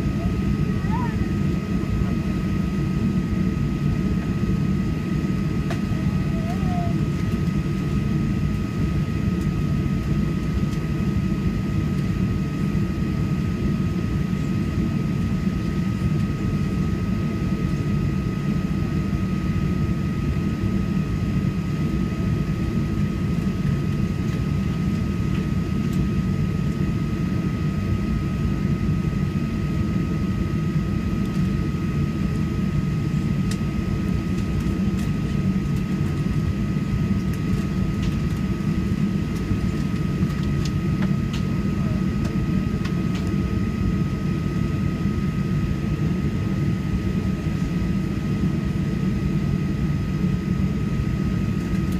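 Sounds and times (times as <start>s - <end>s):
jet engines idling: 0.0s - 19.0s, 28.2s - 51.9s
cabin air running: 0.0s - 51.9s.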